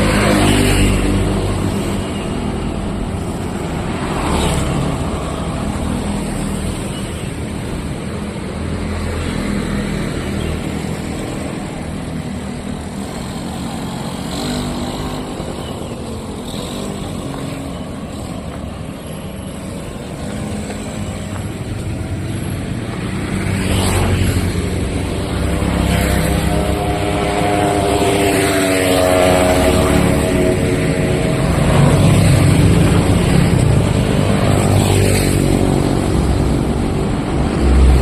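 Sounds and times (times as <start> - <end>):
vehicles passing by: 0.0 - 38.0.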